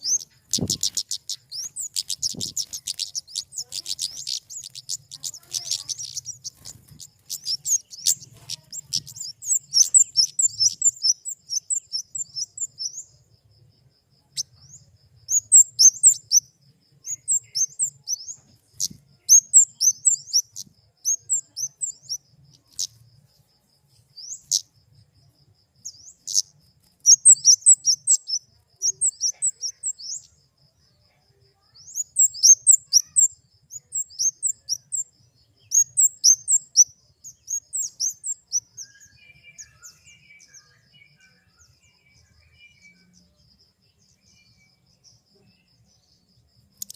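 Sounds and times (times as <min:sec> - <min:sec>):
bird chip and twitter calls: 0:00.0 - 0:13.4, 0:14.2 - 0:46.9.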